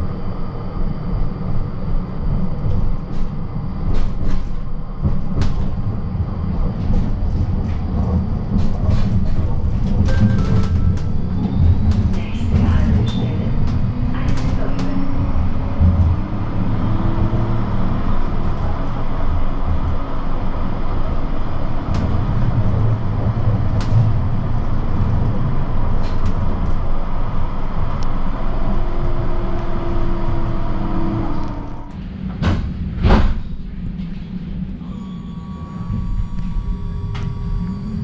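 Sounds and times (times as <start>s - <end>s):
tram wheels rumbling on rails: 0.0s - 38.0s.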